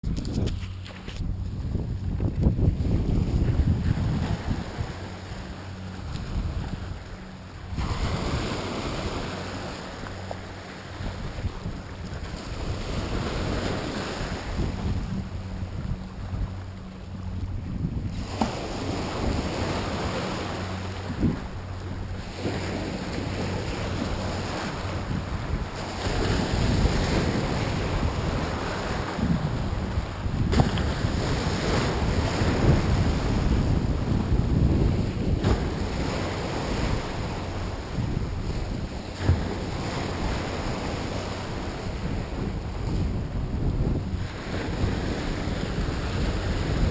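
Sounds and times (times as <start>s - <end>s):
wind buffeting microphone: 0.0s - 46.9s
waves washing: 0.1s - 46.9s.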